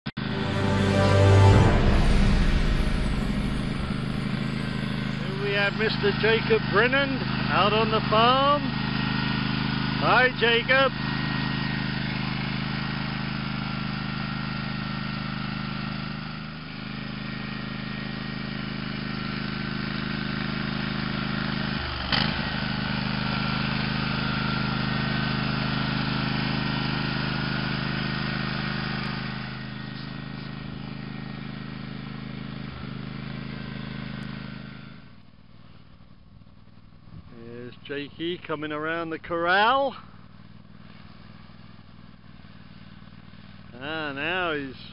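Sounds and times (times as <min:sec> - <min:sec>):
small engine running: 0:04.4 - 0:36.9, 0:39.6 - 0:44.9.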